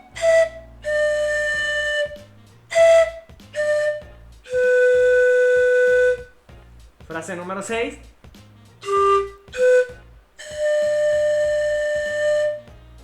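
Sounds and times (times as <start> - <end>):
panpipes playing slow melody: 0.0 - 6.4, 8.8 - 12.9.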